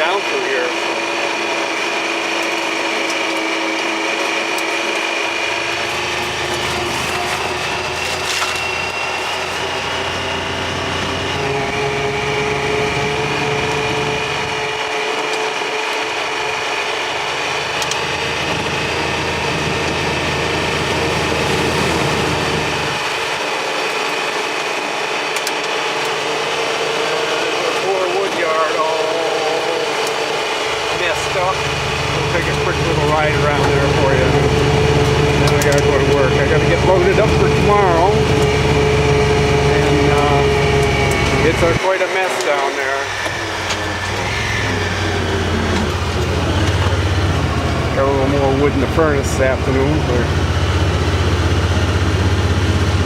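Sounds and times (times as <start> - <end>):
work machine engine running: 0.0 - 53.0
deeper rumble: 0.8 - 42.0, 42.9 - 53.0.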